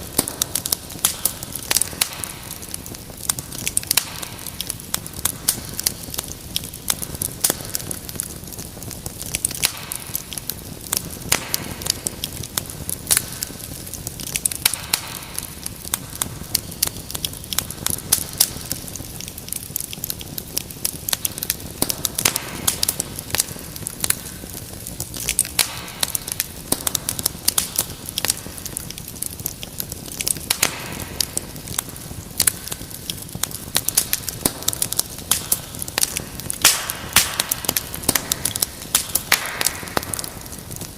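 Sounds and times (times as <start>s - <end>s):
low rumble of burning: 0.0s - 40.9s
sharp pops and snaps: 0.0s - 40.9s
wood fire crackling: 0.0s - 40.9s.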